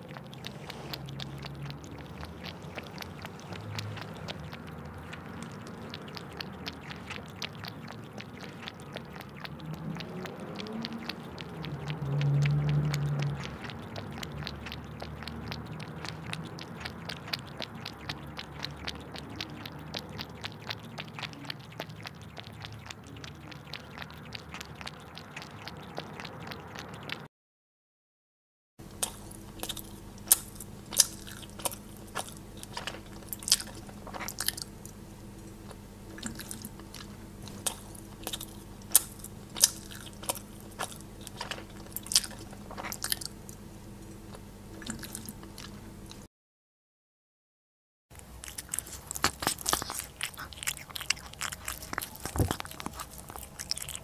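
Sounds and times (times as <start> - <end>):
low steady hum: 0.0 - 27.1, 28.8 - 46.3, 48.2 - 54.0
crunchy chewing of food: 0.0 - 27.3, 28.8 - 46.3, 48.1 - 54.0.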